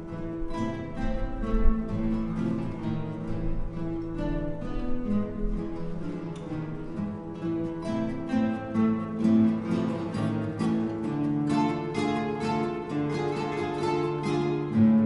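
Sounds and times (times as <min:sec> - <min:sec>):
acoustic guitar ensemble tango: 0:00.0 - 0:15.0.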